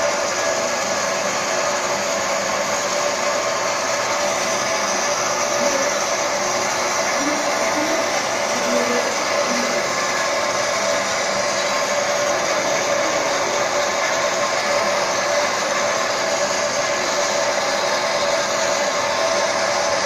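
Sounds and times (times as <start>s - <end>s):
machine whir: 0.0s - 20.0s.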